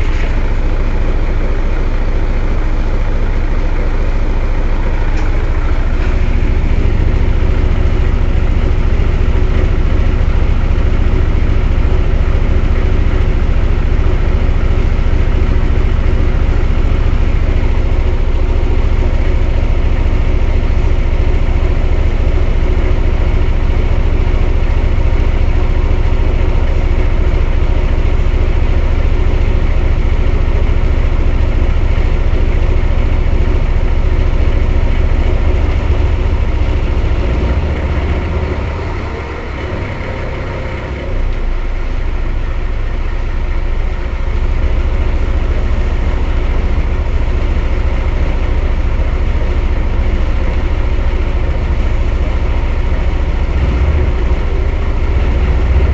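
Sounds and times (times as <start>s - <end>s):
bus engine rumbling: 0.0s - 55.9s.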